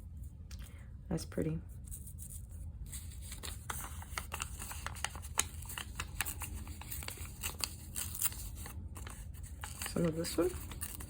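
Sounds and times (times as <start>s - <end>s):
paper rustling and crinkling: 1.8s - 11.0s.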